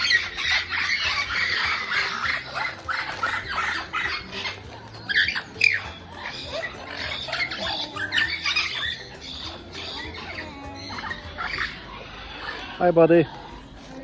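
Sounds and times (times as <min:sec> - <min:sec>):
caged birds chirping and squawking: 0:00.0 - 0:14.0.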